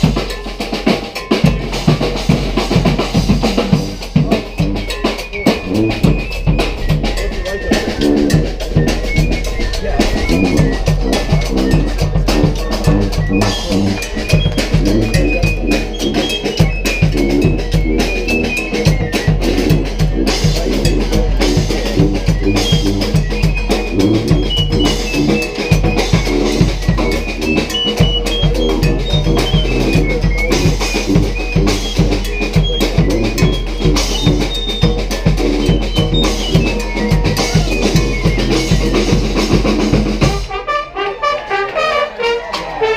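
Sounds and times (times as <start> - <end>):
bass drum and snare beat: 0.0 - 40.7
marching brass band playing: 0.0 - 42.9.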